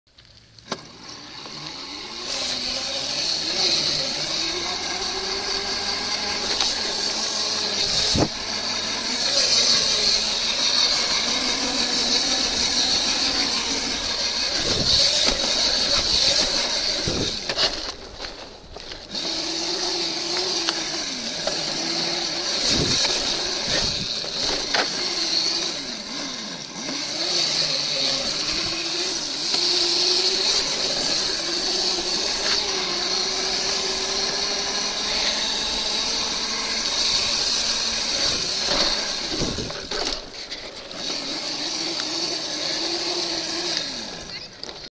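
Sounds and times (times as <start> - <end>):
electric dirt bike motor whine: 0.3 - 44.9.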